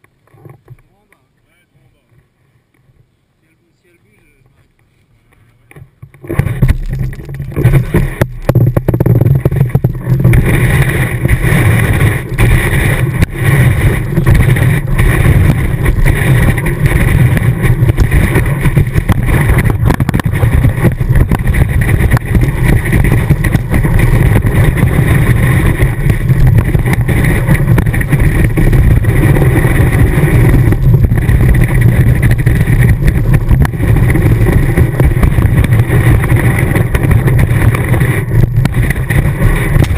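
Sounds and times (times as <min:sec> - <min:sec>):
wind over camera housing: 0:04.3 - 0:39.9
ski rushing over snow: 0:06.2 - 0:39.9.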